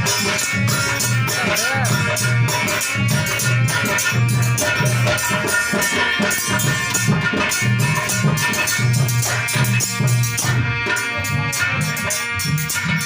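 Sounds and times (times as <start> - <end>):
drum steady beat: 0.0 - 13.0
held melody: 0.0 - 13.0
rattling percussion: 0.0 - 13.0.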